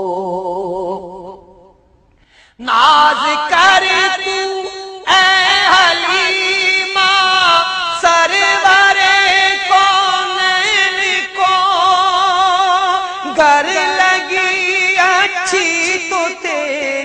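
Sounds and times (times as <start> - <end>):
man singing wordless vocal line: 0.0 - 1.8, 2.5 - 17.0.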